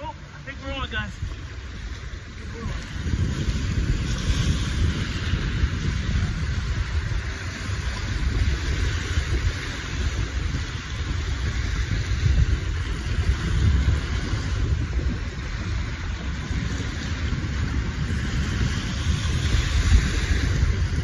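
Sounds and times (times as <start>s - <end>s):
small waves breaking on beach: 0.0s - 21.0s
wind rumbling on microphone: 0.0s - 21.0s.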